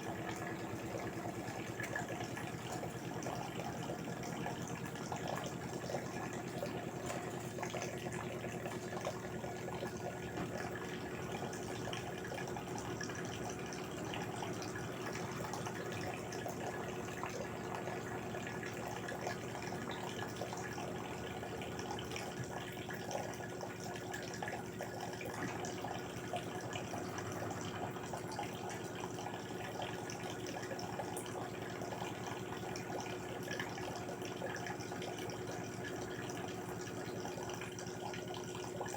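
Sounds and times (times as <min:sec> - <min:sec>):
faint machine hum: 0:00.0 - 0:38.9
water splashing in washing machine: 0:00.0 - 0:38.9.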